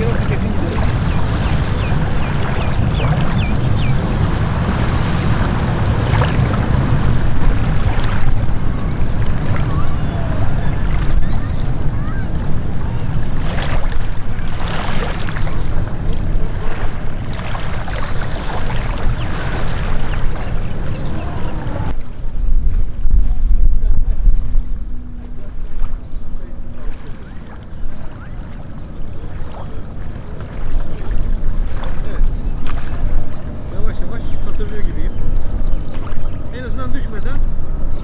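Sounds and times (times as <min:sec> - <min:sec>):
sea water and small waves: 0:00.0 - 0:38.0
wind buffeting microphone: 0:00.0 - 0:38.0.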